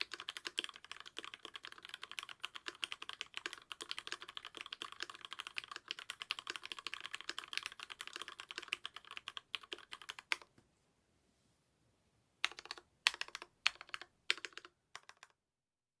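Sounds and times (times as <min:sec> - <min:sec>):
mechanical keyboard typing: 0:00.0 - 0:10.5, 0:12.4 - 0:15.4.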